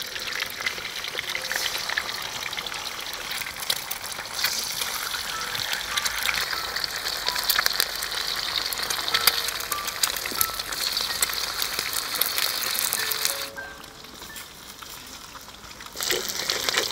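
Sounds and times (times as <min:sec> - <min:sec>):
eggs sizzling in hot oil: 0:00.0 - 0:16.9.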